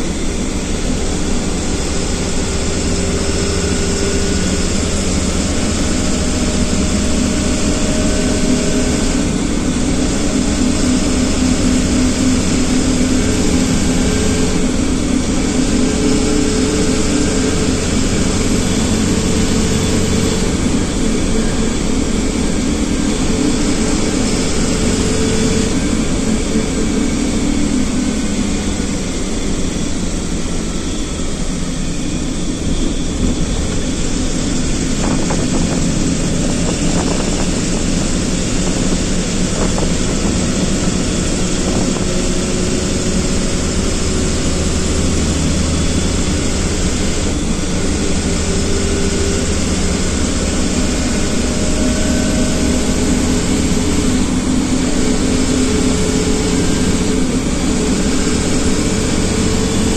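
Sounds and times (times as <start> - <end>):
vehicle engine and road drone: 0.0 - 59.9.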